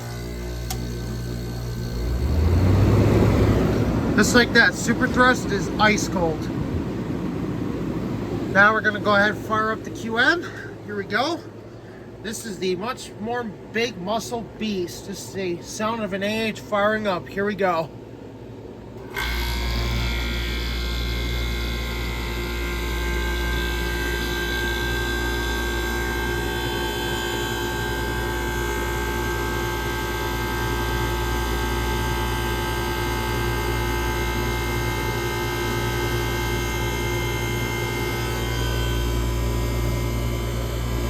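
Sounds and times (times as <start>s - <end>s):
air conditioner compressor hum: 0.0s - 41.0s
air conditioner fan whir: 0.0s - 41.0s.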